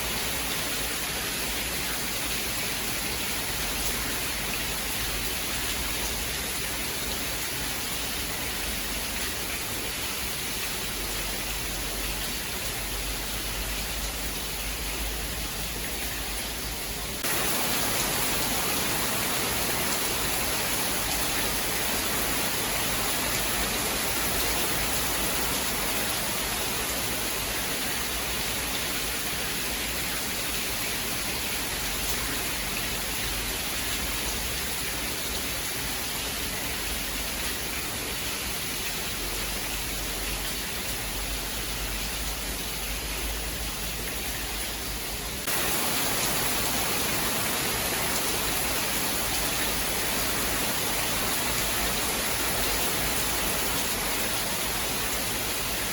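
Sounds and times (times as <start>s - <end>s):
dense rain hiss: 0.0s - 55.9s.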